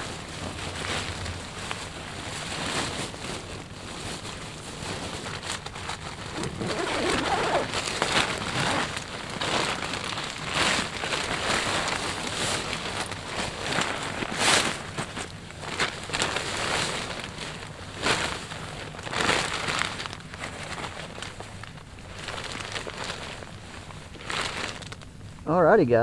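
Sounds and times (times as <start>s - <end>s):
fabric and dry leaves rustling: 0.0s - 25.2s.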